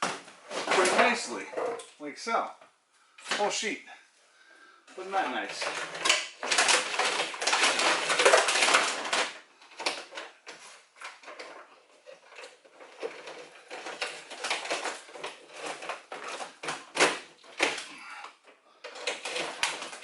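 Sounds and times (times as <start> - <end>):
cracks and scrapes: 0.0 - 2.1, 5.1 - 20.0.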